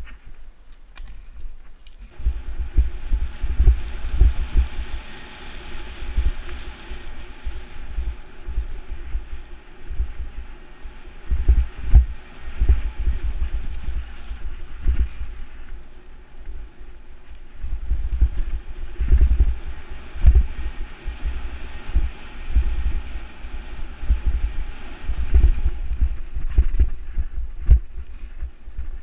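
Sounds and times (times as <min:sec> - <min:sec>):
mountain bike rolling on dirt: 0:00.0 - 0:29.0
wind buffeting microphone: 0:00.0 - 0:29.0.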